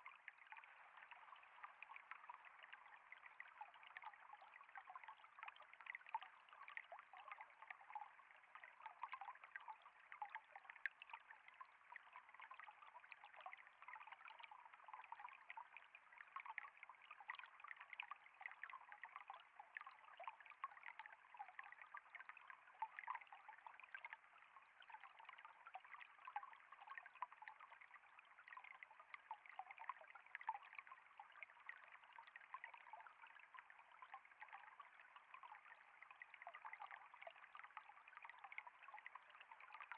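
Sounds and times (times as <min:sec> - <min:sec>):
faint trickle of flowing water: 0:00.0 - 0:39.9.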